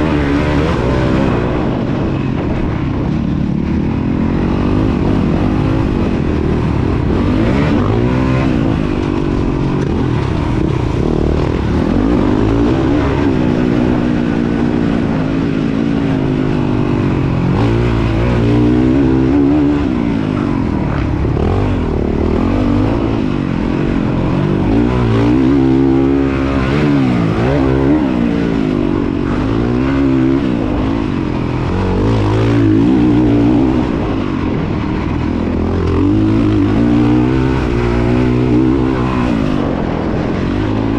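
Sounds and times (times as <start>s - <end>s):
dirt bike engine racing: 0.0s - 40.9s.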